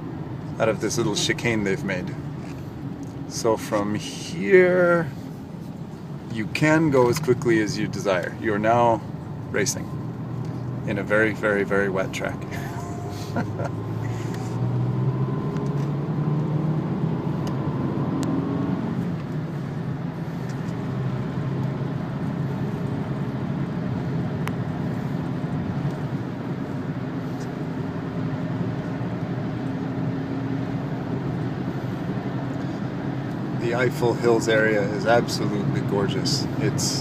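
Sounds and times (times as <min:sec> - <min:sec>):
road noise on wet track: 0:00.0 - 0:37.0
car engine revving: 0:06.4 - 0:37.0.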